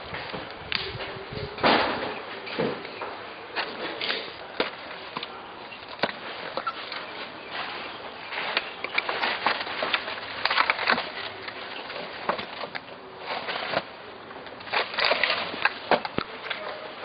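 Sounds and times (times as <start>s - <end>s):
crackly rustling: 0.0s - 17.0s.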